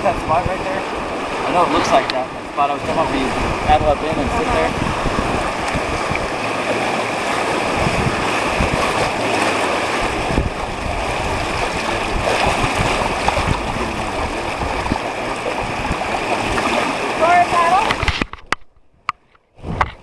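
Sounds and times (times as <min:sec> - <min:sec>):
river water rushing: 0:00.0 - 0:18.1.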